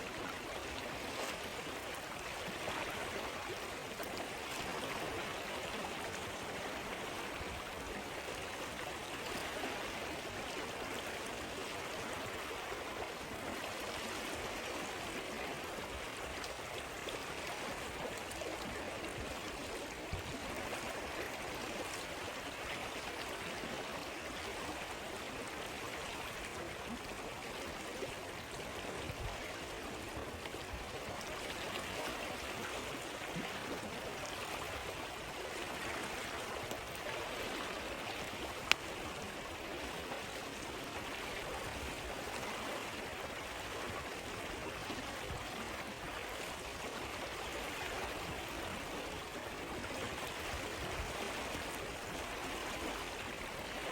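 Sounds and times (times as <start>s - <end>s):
river water babbling over stones: 0.0s - 53.9s.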